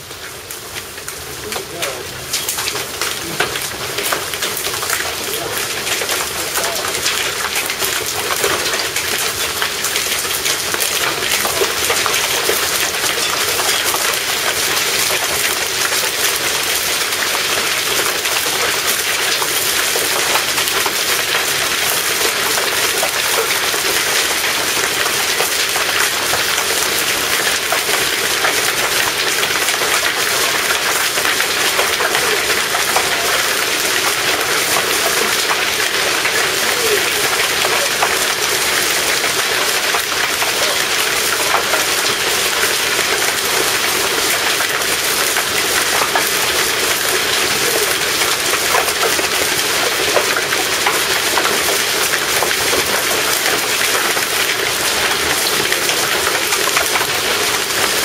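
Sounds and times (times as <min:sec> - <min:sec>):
rain and hail pelting down: 0:00.0 - 0:58.0.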